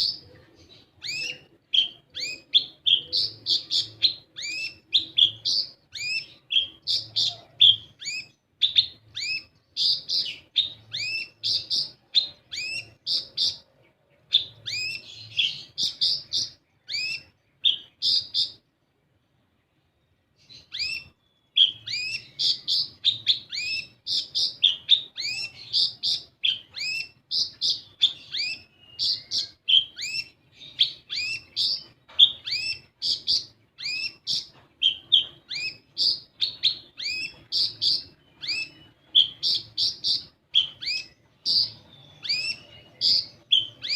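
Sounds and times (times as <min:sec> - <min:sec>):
bird singing high sharp chirps: 0:00.0 - 0:18.7, 0:20.4 - 0:43.9.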